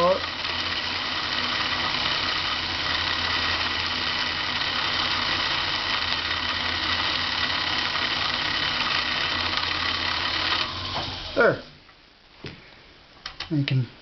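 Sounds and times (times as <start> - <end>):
sewing machine motor running: 0.0 - 11.4.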